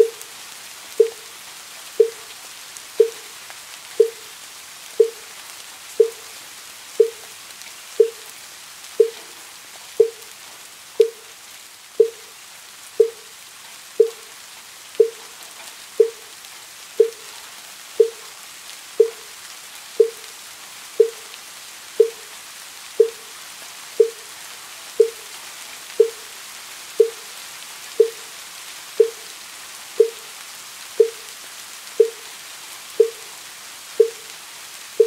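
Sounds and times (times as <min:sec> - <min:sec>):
steady rainfall: 0:00.0 - 0:35.0.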